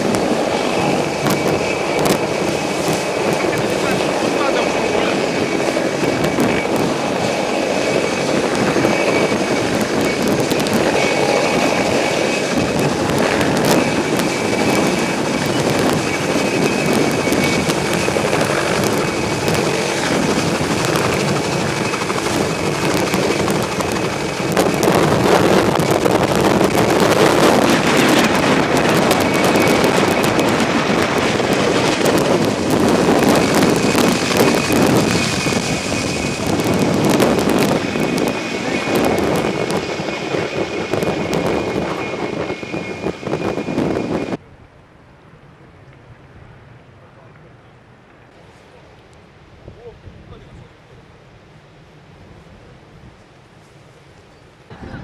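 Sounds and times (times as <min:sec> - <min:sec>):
choppy water: 0:00.0 - 0:44.4
helicopter rotor and turbine noise: 0:00.0 - 0:55.0
wind buffeting microphone: 0:00.0 - 0:55.0.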